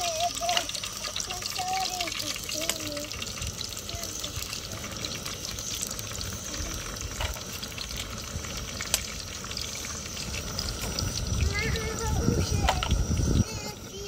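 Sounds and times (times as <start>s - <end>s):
eggs sizzling in oil: 0.0s - 14.0s.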